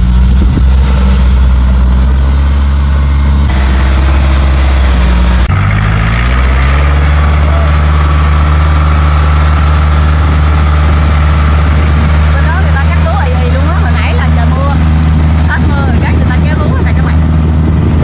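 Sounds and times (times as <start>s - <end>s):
tracked vehicle engine running: 0.0s - 18.0s.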